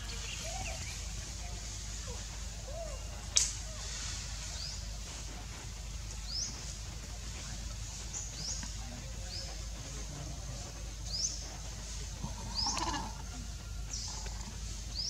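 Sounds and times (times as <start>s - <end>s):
outdoor ambient hiss: 0.0s - 15.0s.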